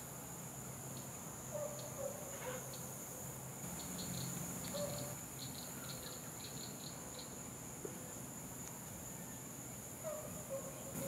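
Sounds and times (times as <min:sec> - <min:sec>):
insects buzzing drone: 0:00.0 - 0:11.0.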